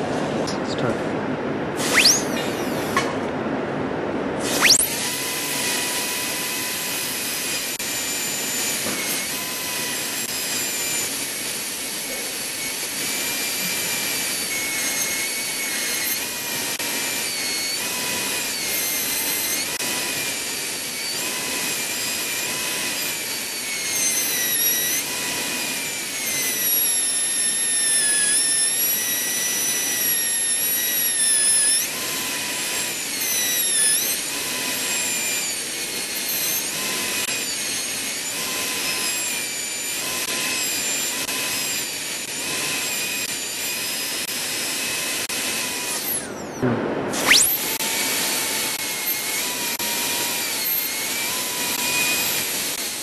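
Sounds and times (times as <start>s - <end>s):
dental drill whining: 1.8s - 3.1s, 4.4s - 46.6s, 47.2s - 53.0s.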